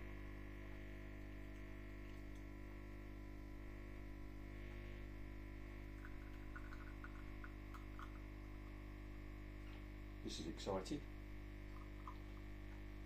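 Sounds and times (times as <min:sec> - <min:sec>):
coffee machine pump hum: 0:00.0 - 0:13.0.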